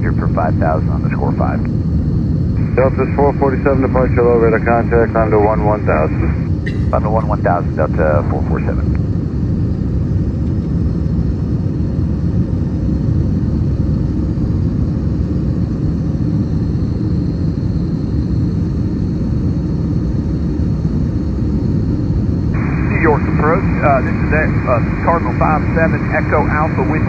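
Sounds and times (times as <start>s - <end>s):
faint high whine: 0.0s - 27.0s
jet engine rumble: 0.0s - 27.0s.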